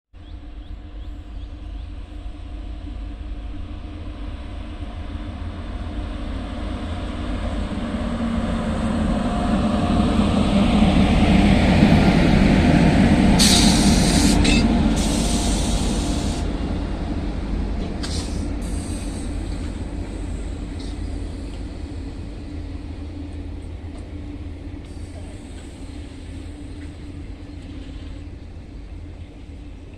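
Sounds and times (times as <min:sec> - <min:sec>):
train passing with hum and rumble: 0:00.2 - 0:29.9.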